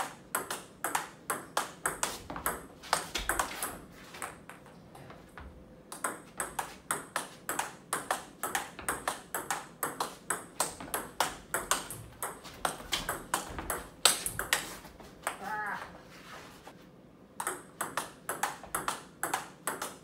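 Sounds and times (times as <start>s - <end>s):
table tennis balls clicking: 0.0s - 4.8s, 5.9s - 15.4s, 17.4s - 20.0s.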